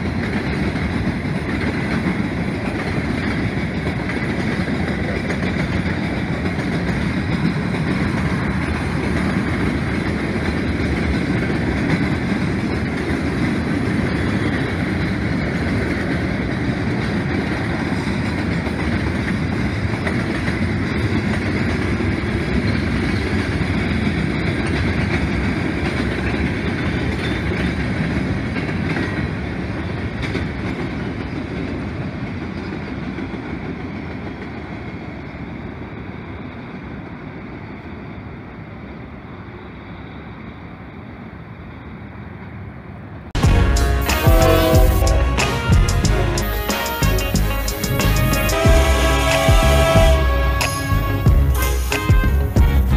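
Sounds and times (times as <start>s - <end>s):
freight train rolling past: 0.0s - 52.9s.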